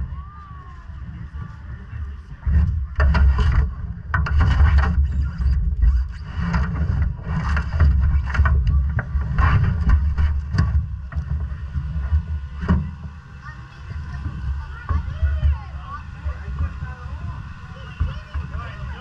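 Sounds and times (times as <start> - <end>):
race car engine running: 0.7 - 19.0.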